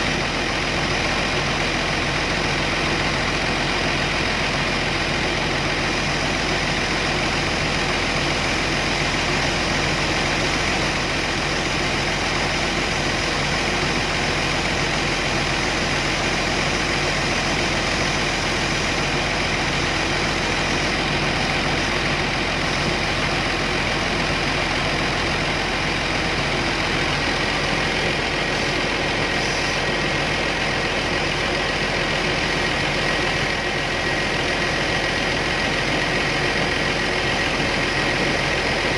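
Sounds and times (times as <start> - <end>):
excavator diesel engine idling: 0.0 - 38.9
thin steady whine: 4.4 - 38.9.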